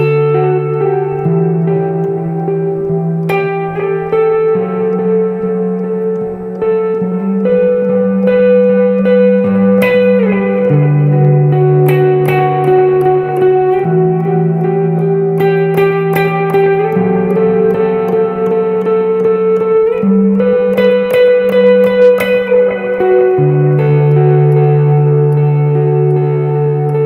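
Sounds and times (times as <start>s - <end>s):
slightly overdriven electric guitar: 0.0s - 27.0s.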